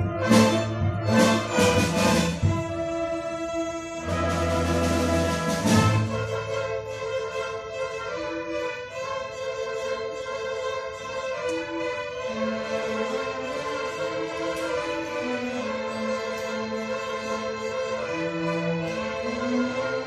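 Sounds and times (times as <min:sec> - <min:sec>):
string orchestra playing: 0:00.0 - 0:20.0.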